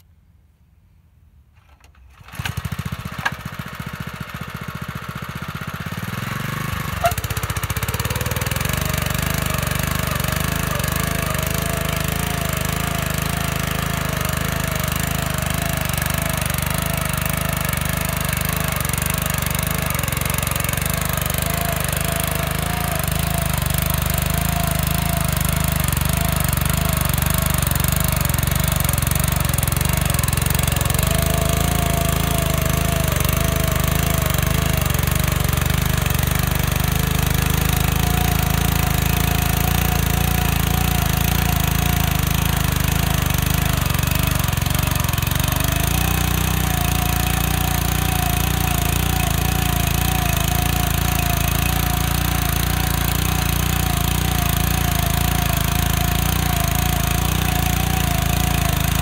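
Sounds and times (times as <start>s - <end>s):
tiller blades digging soil: 1.6s - 59.0s
tiller engine starting and running: 1.6s - 59.0s.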